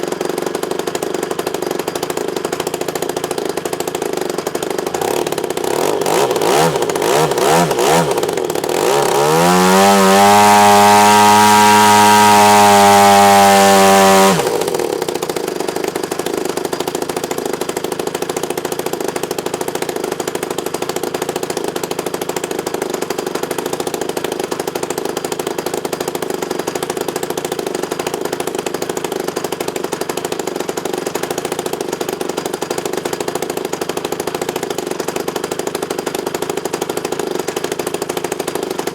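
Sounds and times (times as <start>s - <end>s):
two-stroke engine revving and idling: 0.0s - 38.9s.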